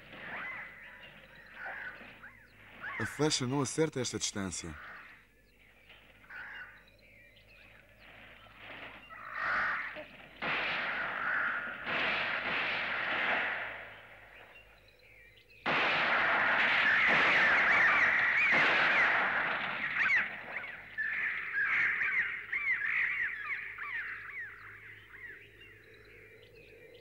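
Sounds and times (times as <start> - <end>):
birds of prey crying: 0.0 - 3.6, 4.7 - 27.0.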